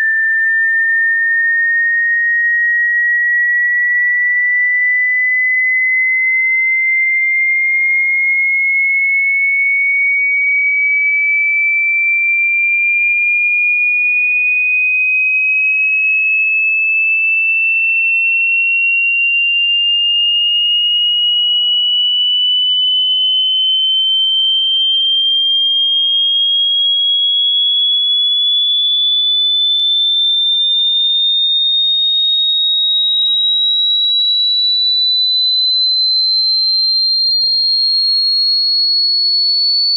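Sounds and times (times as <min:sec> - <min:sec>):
rising sine test tone: 0:00.0 - 0:11.6, 0:18.0 - 0:39.9.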